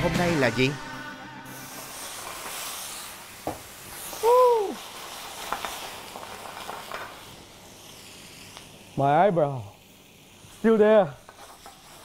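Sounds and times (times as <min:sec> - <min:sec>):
pan sizzling: 0:00.0 - 0:12.0.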